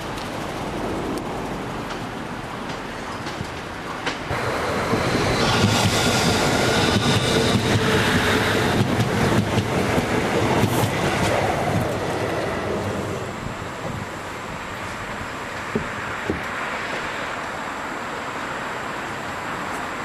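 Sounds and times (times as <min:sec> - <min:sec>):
train wheels on rails with clicks: 0:00.0 - 0:20.0
train high whine: 0:03.8 - 0:20.0.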